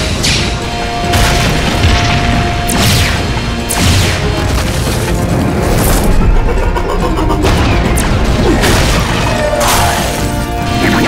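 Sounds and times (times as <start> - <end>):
action music: 0.0 - 11.0.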